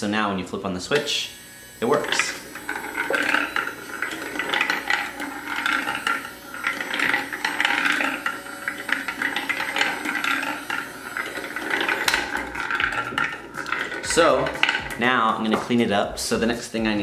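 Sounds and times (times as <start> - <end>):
motor lift whirring: 0.3 - 16.8
marbles clicking down wooden track: 2.2 - 15.9.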